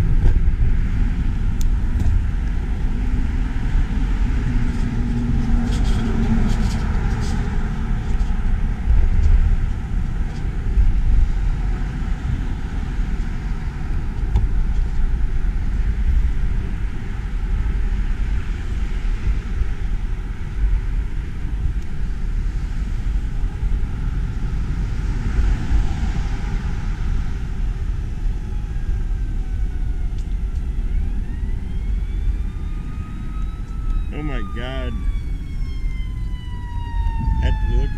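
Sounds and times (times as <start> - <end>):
wind and road noise rumble: 0.0 - 37.9.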